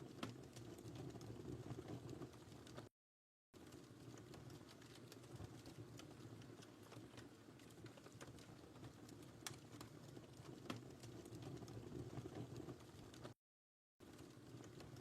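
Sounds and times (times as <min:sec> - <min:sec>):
wood fire crackling: 0:00.0 - 0:02.9, 0:03.6 - 0:13.4, 0:14.0 - 0:15.0.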